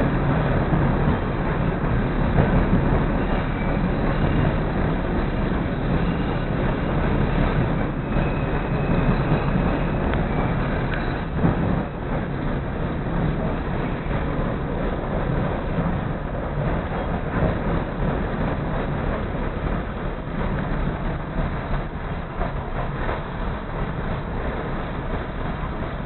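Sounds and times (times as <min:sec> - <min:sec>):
railcar rumbling along track: 0:00.0 - 0:26.0.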